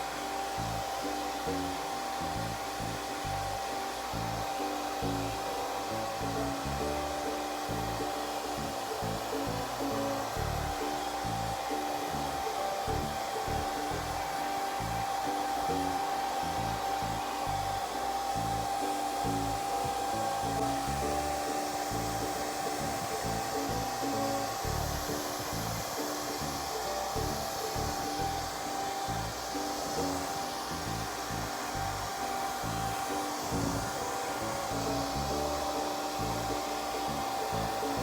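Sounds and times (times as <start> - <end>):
background music: 0.0 - 38.0
hair dryer whining: 0.0 - 38.0.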